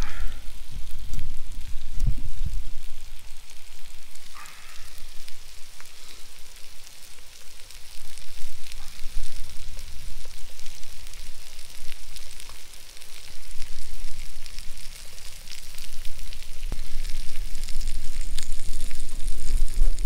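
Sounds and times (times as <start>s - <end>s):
potatoes sizzling in hot oil: 0.0s - 20.0s.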